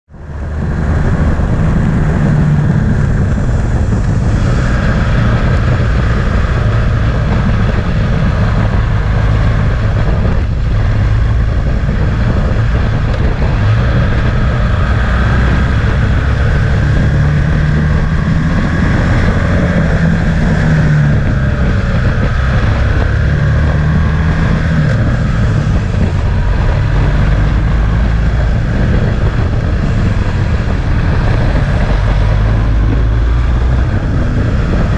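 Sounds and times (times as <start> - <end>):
motorcycle engine revving: 0.1 - 34.9
wind noise on microphone: 0.1 - 34.9.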